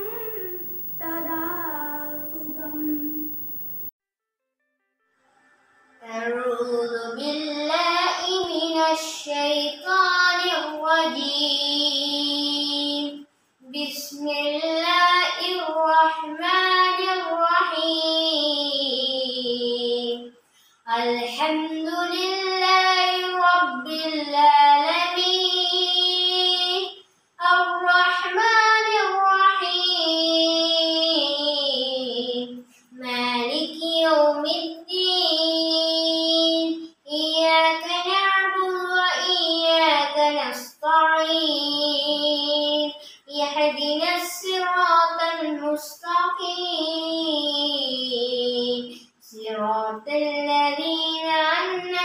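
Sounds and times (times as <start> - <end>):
boy singing a prayer: 6.1 - 52.0.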